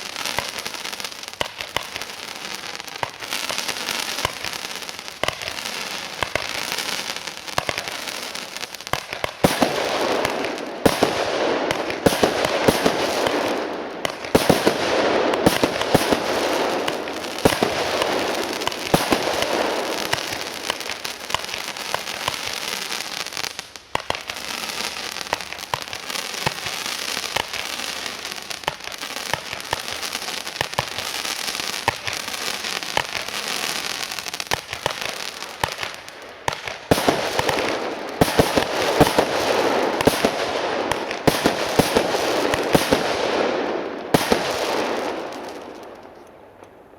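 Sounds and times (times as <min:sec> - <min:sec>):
firework crackling: 0:00.0 - 0:46.8.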